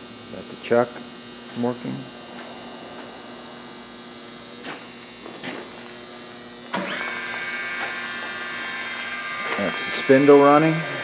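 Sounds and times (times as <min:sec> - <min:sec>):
electrical hum: 0:00.0 - 0:11.0
spindle motor whine: 0:00.0 - 0:11.0.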